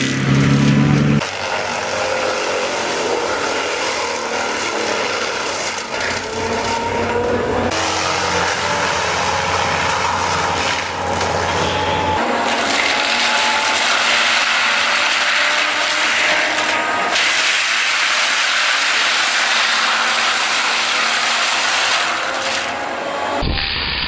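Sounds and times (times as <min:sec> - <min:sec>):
engine-powered saw cutting wood: 0:00.0 - 0:24.0.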